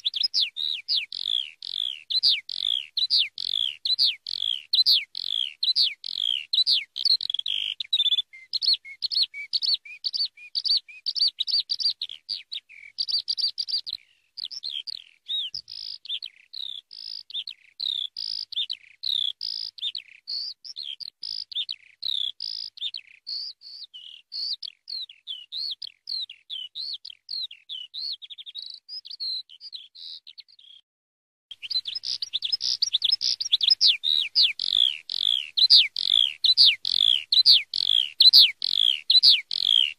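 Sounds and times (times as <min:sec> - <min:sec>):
skylark singing: 0:00.0 - 0:30.8, 0:31.5 - 0:39.9.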